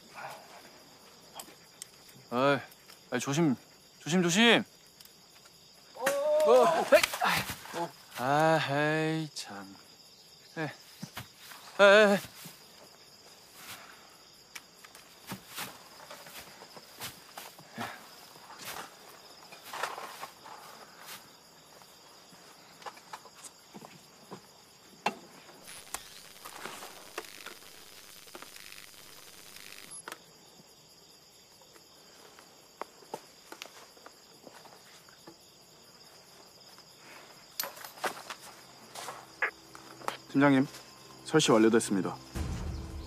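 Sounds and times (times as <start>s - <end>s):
insects trilling: 0.0s - 43.0s.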